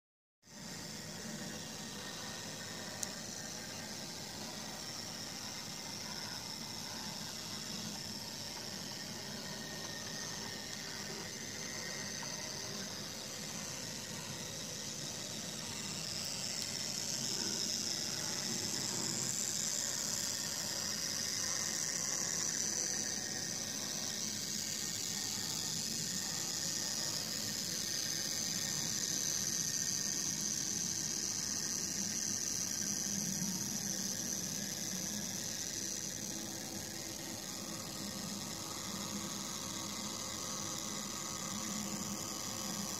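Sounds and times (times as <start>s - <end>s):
model train whirring on rails: 0.5s - 42.9s.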